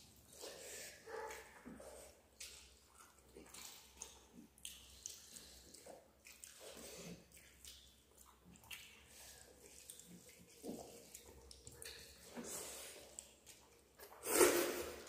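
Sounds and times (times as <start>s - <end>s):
chewing: 0.0s - 15.0s
wet squishing of food mixed by hand: 0.0s - 15.0s.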